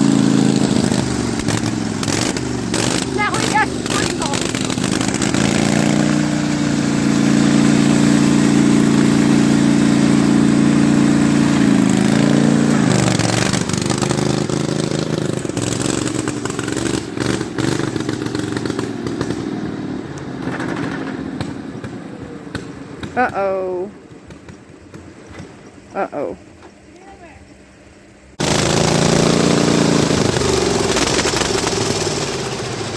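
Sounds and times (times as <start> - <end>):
riding lawn mower engine running: 0.0 - 32.9.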